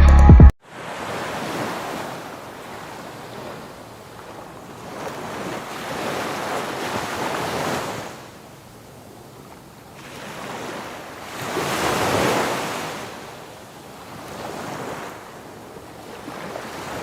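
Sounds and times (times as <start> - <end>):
sea waves washing onto beach: 0.7 - 17.0.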